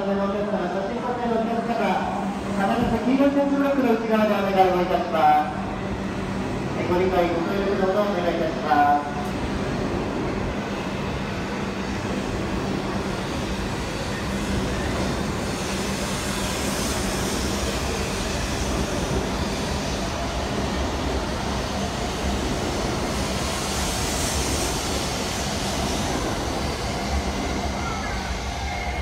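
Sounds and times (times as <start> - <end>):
train rolling past rumbling: 0.0 - 29.0
train hiss: 0.4 - 29.0.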